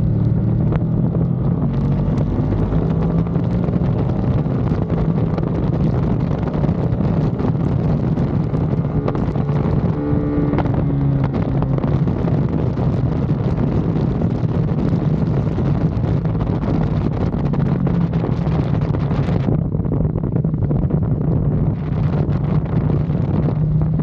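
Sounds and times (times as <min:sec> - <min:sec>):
motorcycle engine running hard: 0:00.0 - 0:24.0
wind rush over microphone: 0:00.0 - 0:24.0.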